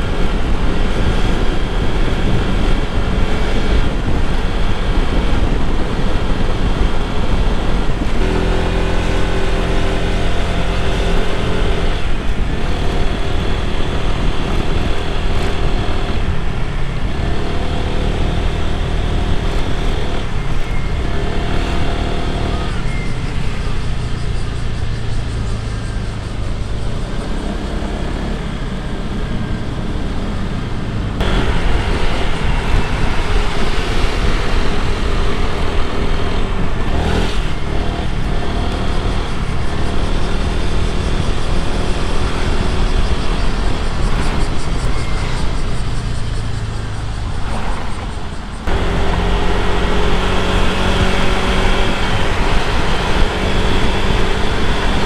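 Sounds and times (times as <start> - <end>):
road and wind noise: 0.0 - 55.0
scooter engine running: 0.0 - 55.0.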